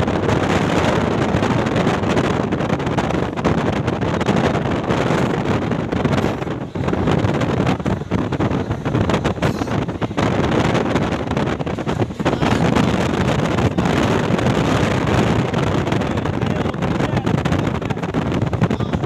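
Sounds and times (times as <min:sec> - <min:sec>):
road vehicle rumble: 0:00.0 - 0:19.0
wind buffeting microphone: 0:00.0 - 0:19.0.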